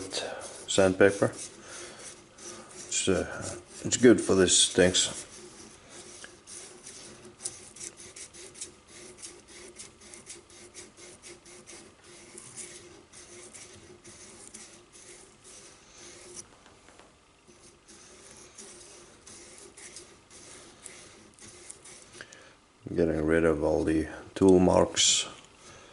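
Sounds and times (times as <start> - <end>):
sandpaper rasping on metal: 0.0 - 16.4, 17.5 - 22.2.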